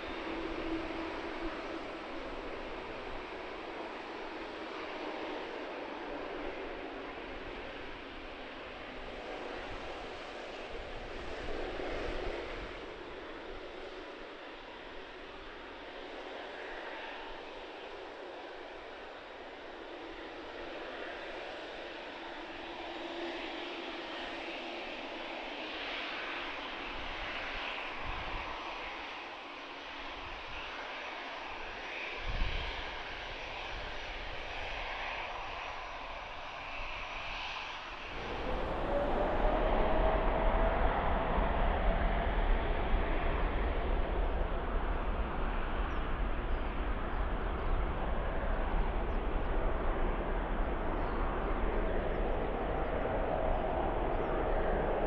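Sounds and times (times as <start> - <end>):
jet engines spooling up: 10.4 - 55.0.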